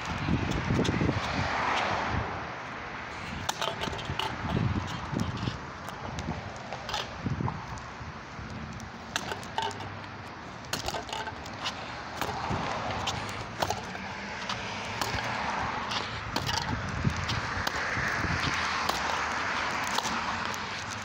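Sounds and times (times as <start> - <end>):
handling clicks and knocks: 3.4 - 21.0.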